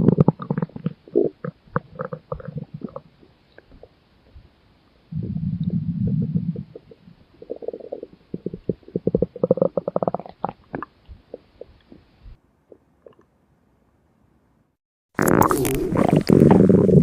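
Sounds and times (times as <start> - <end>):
stomach growling and gurgling: 0.0 - 4.4, 5.1 - 12.1, 12.7 - 13.3, 15.2 - 17.0.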